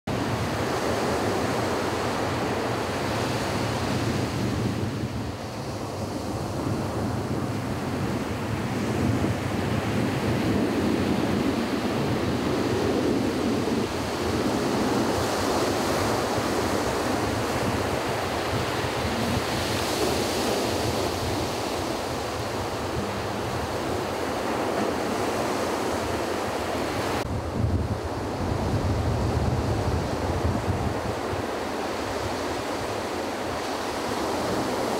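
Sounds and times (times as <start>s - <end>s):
sea surf breaking: 0.1s - 34.9s.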